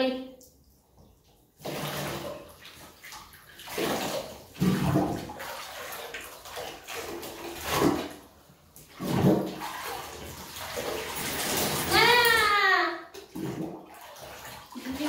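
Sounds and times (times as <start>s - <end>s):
water pouring and splashing: 1.5s - 15.0s.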